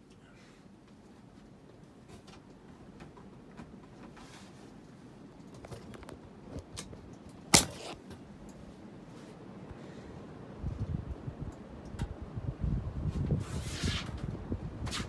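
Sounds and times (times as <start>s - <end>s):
ceiling fan running: 0.7s - 15.0s.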